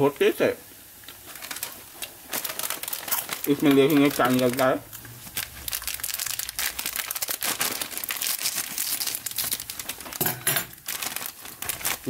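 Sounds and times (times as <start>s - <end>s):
snack packet crinkling: 1.0s - 12.0s.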